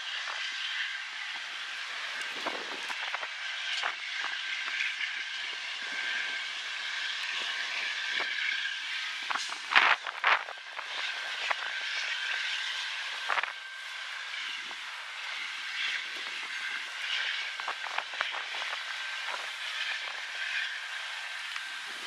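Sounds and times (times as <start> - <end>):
distant freight train rolling: 0.0 - 22.0.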